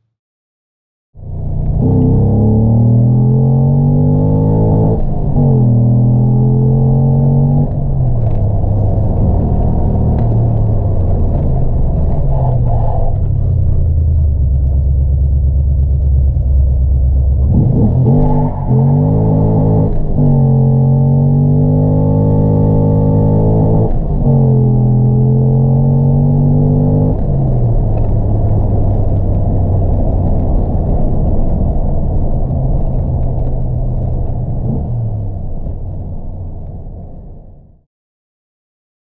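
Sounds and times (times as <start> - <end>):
car engine accelerating: 1.2 - 37.8.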